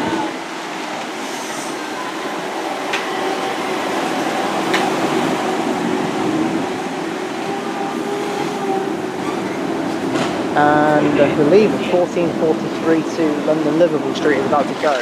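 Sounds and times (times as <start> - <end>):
electric train hum and whine: 0.0 - 15.0.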